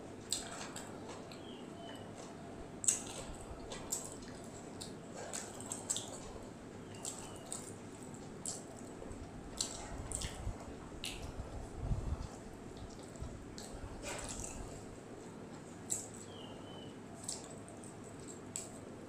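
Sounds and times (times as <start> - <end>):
wet chewing and lip-smacking: 0.2 - 1.5, 2.8 - 14.9, 15.6 - 16.4, 17.2 - 18.9.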